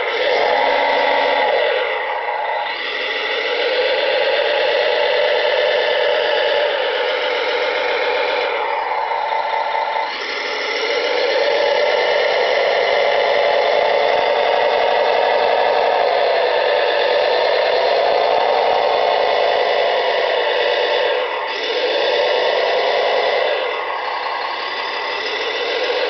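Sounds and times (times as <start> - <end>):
simulated diesel engine through speaker: 0.0 - 26.0.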